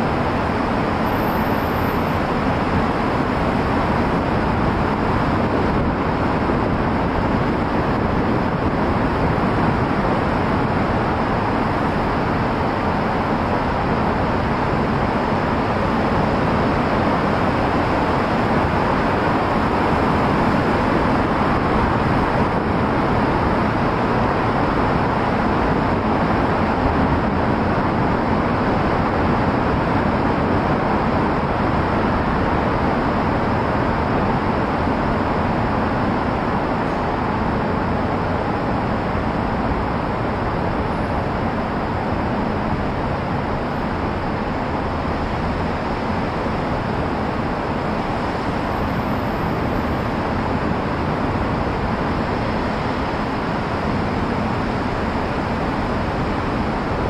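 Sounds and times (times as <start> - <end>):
car road noise: 0.0 - 57.0.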